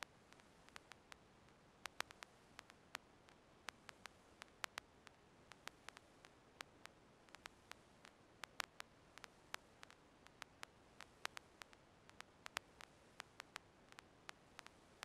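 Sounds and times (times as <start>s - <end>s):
faint hiss: 0.0s - 15.0s
sharp clicks: 1.8s - 4.9s, 5.5s - 14.8s.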